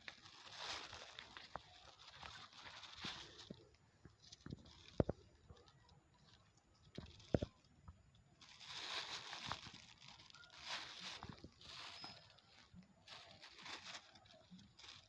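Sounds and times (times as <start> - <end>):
plastic litter crinkling: 0.0 - 15.0.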